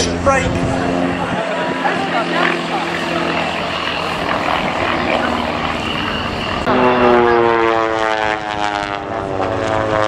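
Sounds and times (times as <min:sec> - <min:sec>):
aircraft engine passing close: 0:00.0 - 0:10.0
propeller plane engine drone: 0:00.0 - 0:10.0.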